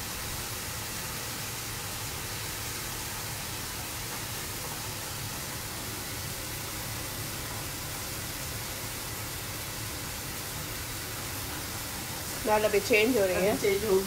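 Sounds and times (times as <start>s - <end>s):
paste frying hiss: 0.0s - 14.0s.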